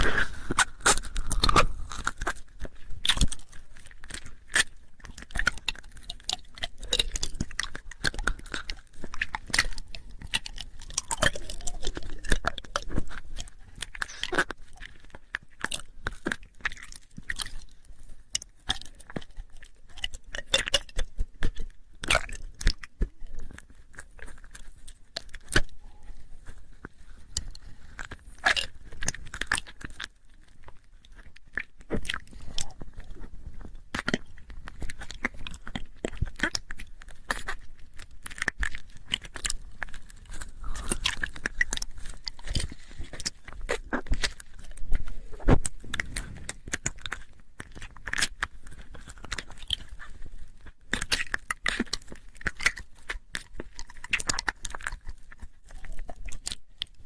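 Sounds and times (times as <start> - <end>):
mouth clicks and smacks: 0.0 - 57.0.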